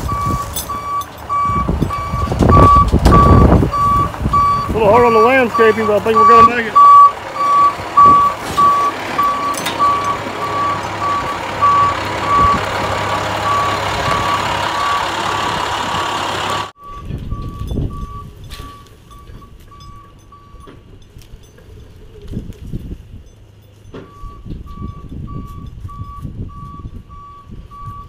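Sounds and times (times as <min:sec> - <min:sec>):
truck engine running: 0:00.0 - 0:28.0
backup alarm beeping: 0:00.1 - 0:15.1, 0:16.8 - 0:21.0, 0:24.0 - 0:28.0.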